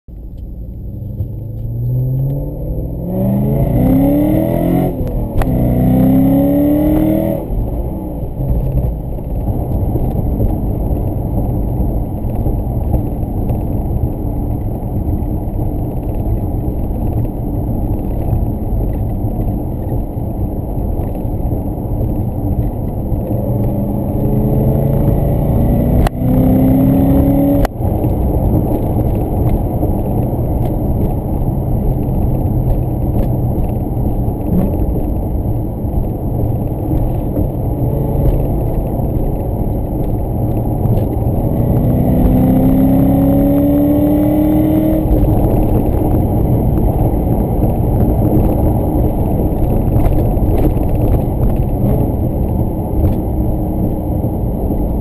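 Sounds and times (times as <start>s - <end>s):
car engine revving: 0.3s - 12.6s, 23.0s - 55.0s.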